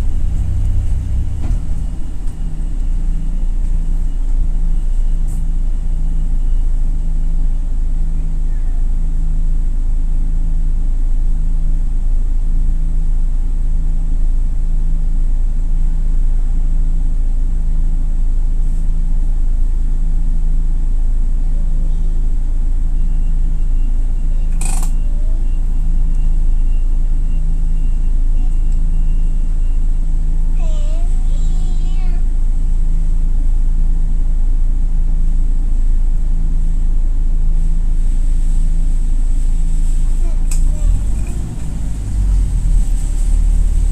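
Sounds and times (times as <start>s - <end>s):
minibus engine rumbling: 0.0s - 43.9s.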